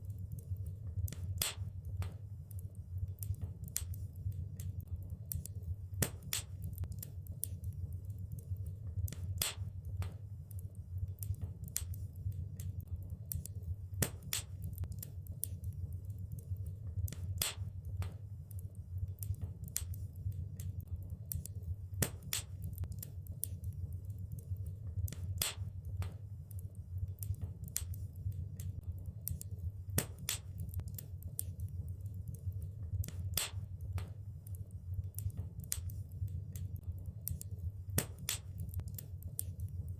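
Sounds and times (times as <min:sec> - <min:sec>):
steady low rumble: 0:00.0 - 0:39.9
wood fire crackling: 0:00.0 - 0:39.9.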